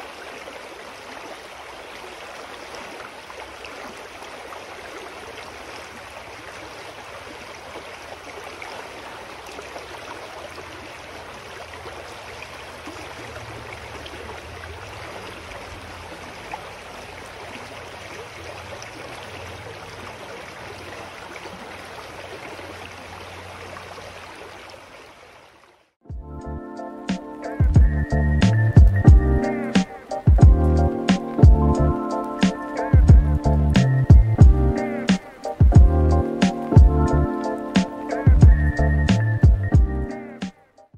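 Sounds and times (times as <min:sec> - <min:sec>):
stream flowing over rocks: 0:00.0 - 0:26.0, 0:28.7 - 0:38.6.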